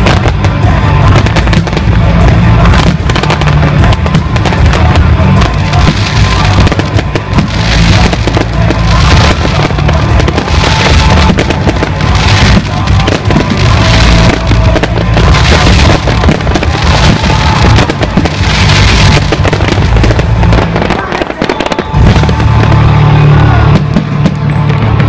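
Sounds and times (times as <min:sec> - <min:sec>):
fireworks crackling and popping: 0:00.0 - 0:25.0
loud music: 0:00.0 - 0:25.0.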